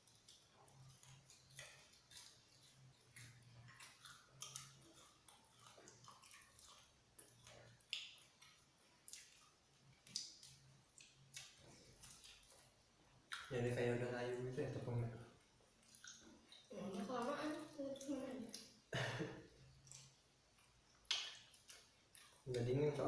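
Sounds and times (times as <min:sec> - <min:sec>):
chewing mouth sounds: 0:00.0 - 0:13.5, 0:15.8 - 0:19.0, 0:19.7 - 0:23.0
faint low hum: 0:00.0 - 0:23.0.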